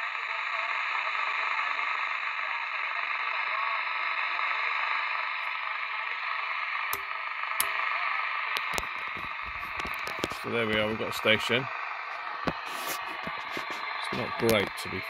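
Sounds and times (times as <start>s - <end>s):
faint radio station: 0.0s - 15.0s
shortwave radio static: 0.0s - 15.0s.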